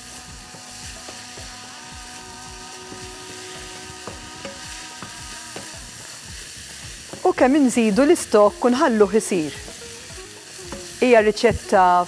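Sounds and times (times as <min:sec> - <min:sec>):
rice and onion sizzling in pan: 0:00.0 - 0:12.0.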